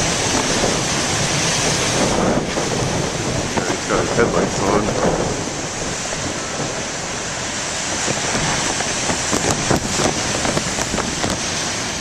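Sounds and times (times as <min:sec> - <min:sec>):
heavy ocean surf: 0:00.0 - 0:12.0
wind buffeting microphone: 0:00.0 - 0:12.0.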